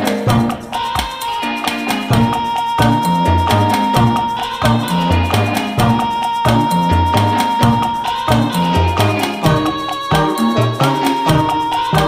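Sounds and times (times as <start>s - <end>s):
bass line: 0.0s - 0.7s, 2.0s - 12.0s
percussion: 0.0s - 12.0s
upbeat latin music: 0.0s - 12.0s.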